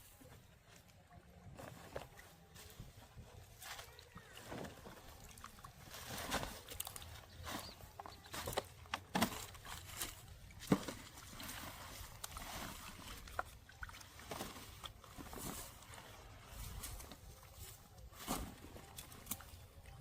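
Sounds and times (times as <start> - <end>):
shallow water sloshing and splashing: 2.8 - 20.0.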